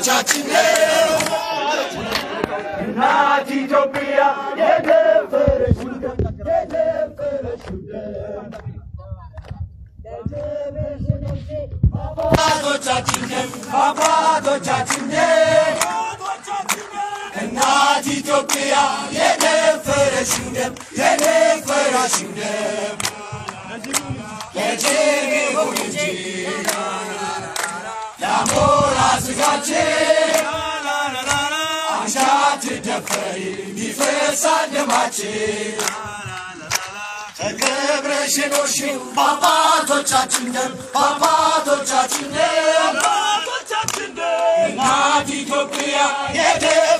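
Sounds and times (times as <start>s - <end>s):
crowd singing a chant-like song: 0.0s - 9.0s, 10.0s - 46.9s.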